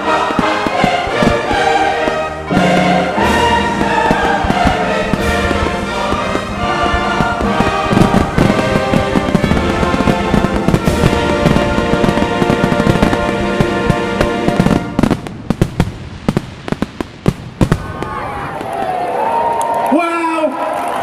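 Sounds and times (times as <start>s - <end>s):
music soundtrack: 0.0s - 17.5s
fireworks banging and crackling: 0.0s - 19.4s.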